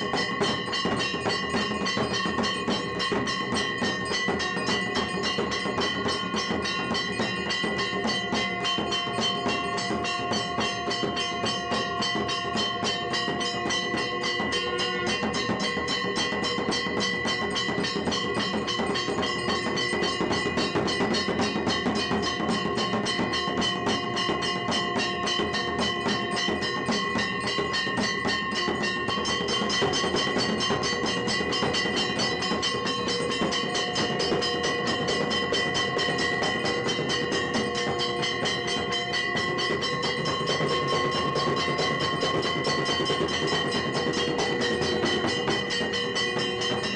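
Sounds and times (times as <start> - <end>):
temple bells ringing: 0.0 - 46.9.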